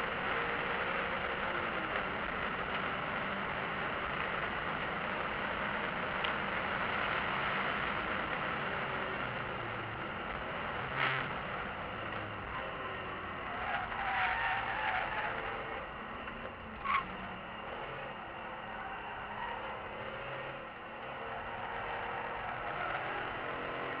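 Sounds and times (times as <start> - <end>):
car engine at speed inside cabin: 0.0 - 24.0
road noise: 0.0 - 24.0.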